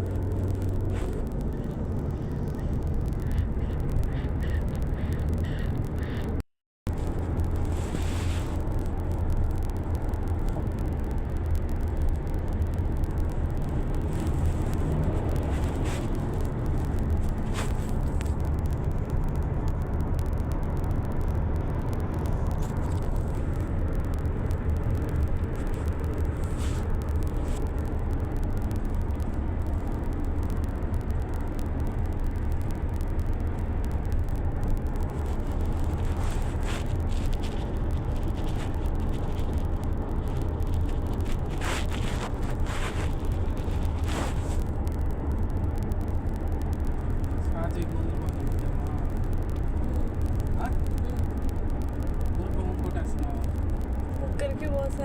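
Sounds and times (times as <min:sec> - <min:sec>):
faint ticks: 0:00.0 - 0:55.0
low vehicle rumble: 0:00.0 - 0:55.0.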